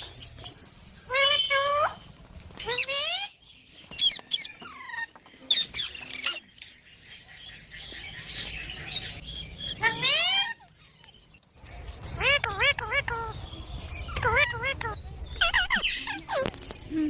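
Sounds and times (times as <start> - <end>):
parrot squawking and chirping: 1.0 - 2.0, 2.6 - 3.4, 4.0 - 16.7.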